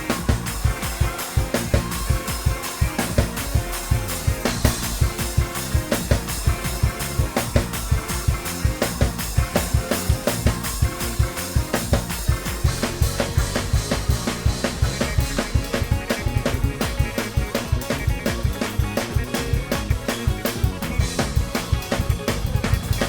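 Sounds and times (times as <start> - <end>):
bass: 0.0 - 23.0
fast drum kit groove: 0.0 - 23.0
keyboard chords: 0.0 - 23.0.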